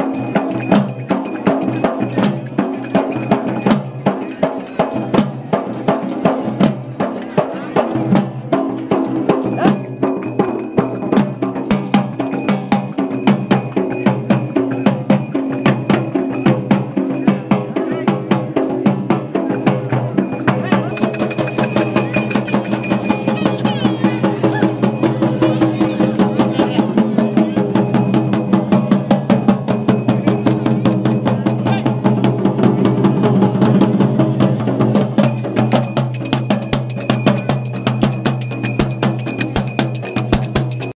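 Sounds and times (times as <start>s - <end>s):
hand cymbals clashing: 0.0s - 6.0s, 9.3s - 33.0s, 35.0s - 40.9s
drums beaten in fast rhythm: 0.0s - 41.0s.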